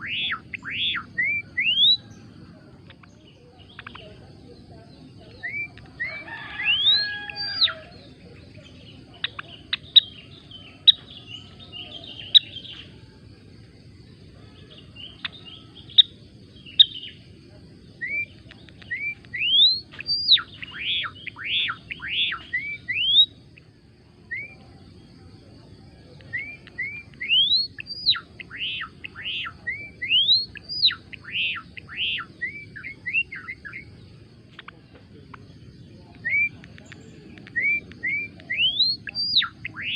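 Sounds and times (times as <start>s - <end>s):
bird singing sharp chirps: 0.0s - 13.1s, 14.5s - 23.6s, 24.2s - 25.4s, 26.0s - 39.9s.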